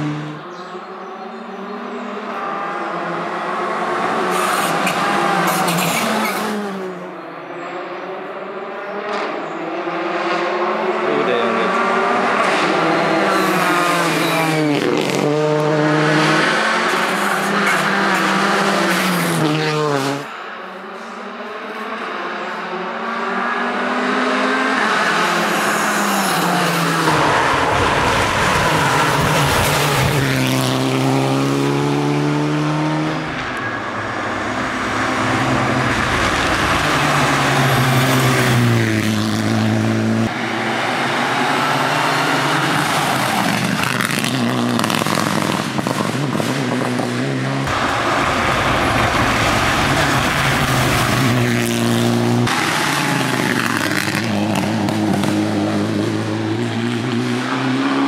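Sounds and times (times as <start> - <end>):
rally cars accelerating past: 0.0 - 58.0.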